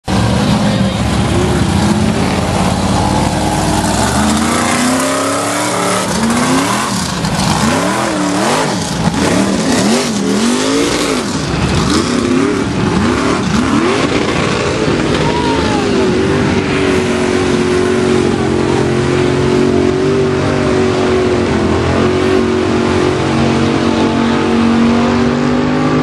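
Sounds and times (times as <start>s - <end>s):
rush of noise: 0.0s - 26.0s
truck engine revving hard: 0.0s - 26.0s.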